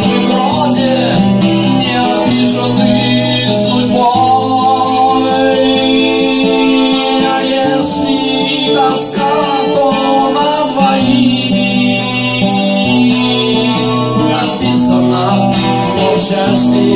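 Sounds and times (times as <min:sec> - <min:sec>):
acoustic guitar strumming: 0:00.0 - 0:16.9
man singing: 0:00.0 - 0:16.9.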